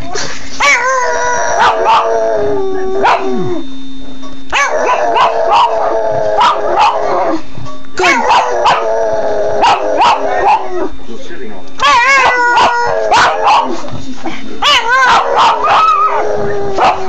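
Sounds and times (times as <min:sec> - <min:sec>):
dog howling: 0:00.6 - 0:03.7, 0:04.5 - 0:11.0, 0:11.8 - 0:13.9, 0:14.6 - 0:17.0.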